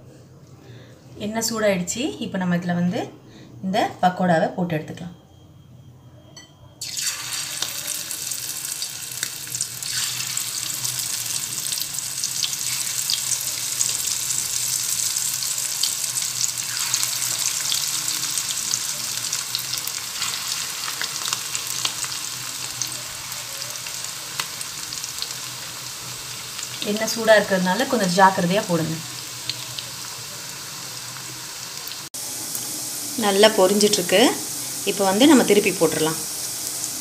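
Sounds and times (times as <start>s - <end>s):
batter sizzling in hot oil: 6.8s - 37.0s.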